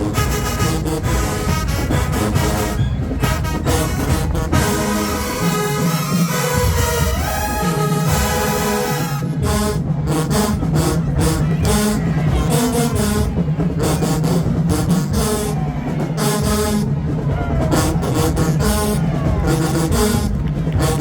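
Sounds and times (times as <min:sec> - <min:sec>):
brass horns playing: 0:00.0 - 0:21.0
sousaphone bass line: 0:00.0 - 0:21.0.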